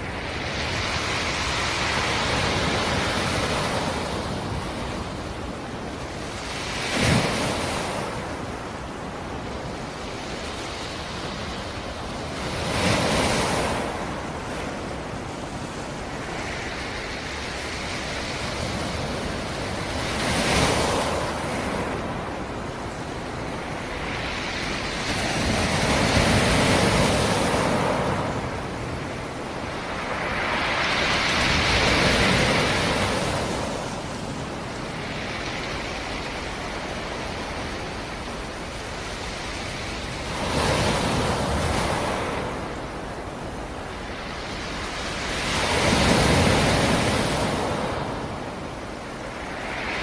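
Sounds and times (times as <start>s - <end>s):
waves breaking on shore: 0.0s - 50.0s.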